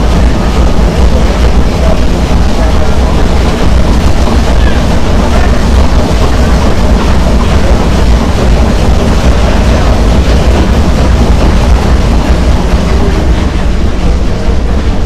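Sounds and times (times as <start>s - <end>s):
boat engine rumble and rush: 0.0s - 15.0s.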